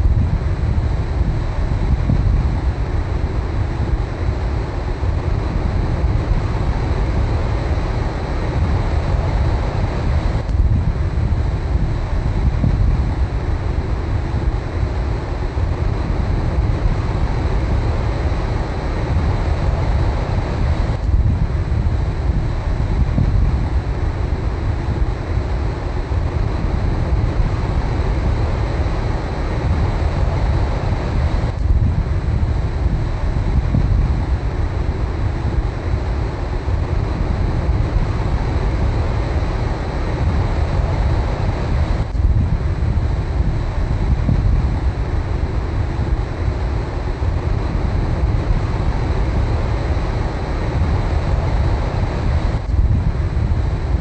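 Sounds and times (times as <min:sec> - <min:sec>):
wind noise on microphone: 0:00.0 - 0:54.0.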